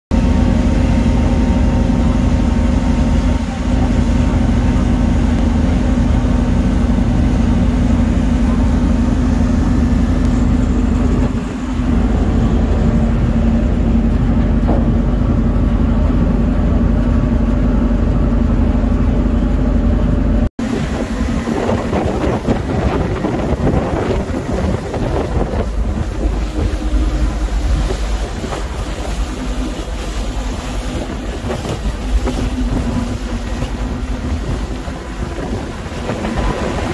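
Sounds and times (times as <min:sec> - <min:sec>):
boat engine droning: 0:00.1 - 0:36.9
rush of water: 0:00.2 - 0:18.0, 0:20.6 - 0:36.9
wind buffeting microphone: 0:01.0 - 0:20.0, 0:20.6 - 0:36.9.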